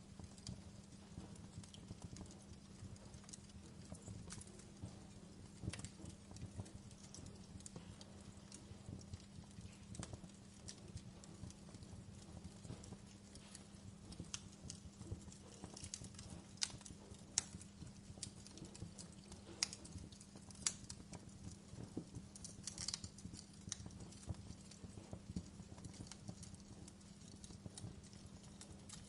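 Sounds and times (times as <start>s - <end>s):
steady low hum: 0.0s - 29.0s
wood fire crackling and popping: 0.0s - 29.0s.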